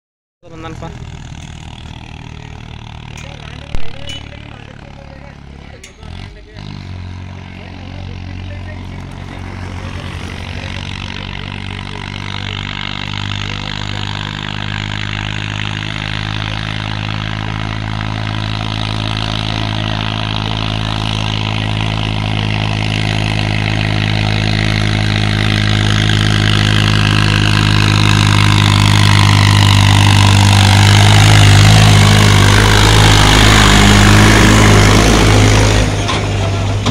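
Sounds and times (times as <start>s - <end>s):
tractor diesel engine passing: 0.4s - 36.9s.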